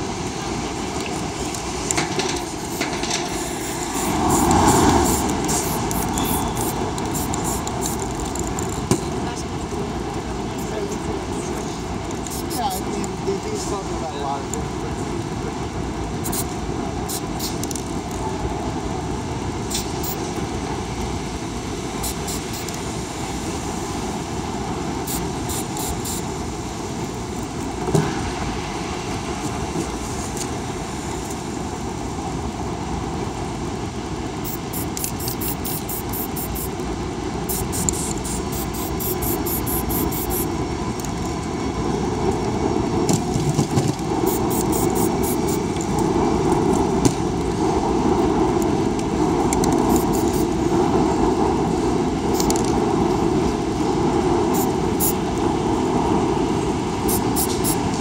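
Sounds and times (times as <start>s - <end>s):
low traffic rumble: 0.0s - 58.0s.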